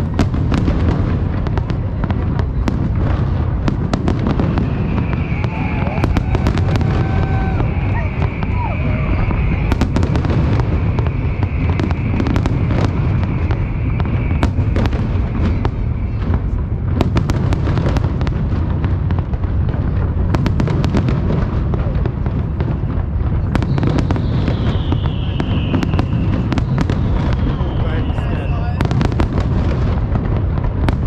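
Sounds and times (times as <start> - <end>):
firework whistling: 0.0 - 31.0
fireworks crackling: 0.0 - 31.0.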